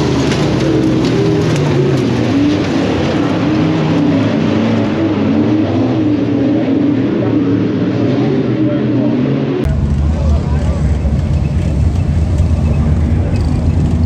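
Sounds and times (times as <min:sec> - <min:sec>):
race car engine running hard: 0:00.0 - 0:14.0
road and wind noise: 0:00.0 - 0:14.0.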